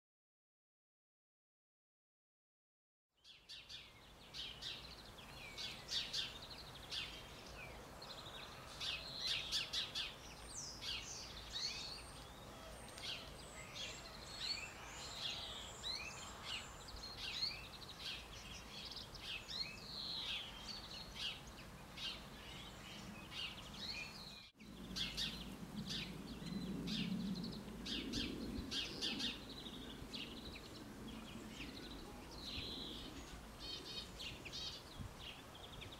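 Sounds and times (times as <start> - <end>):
songbirds chirping and singing: 3.2 - 35.9.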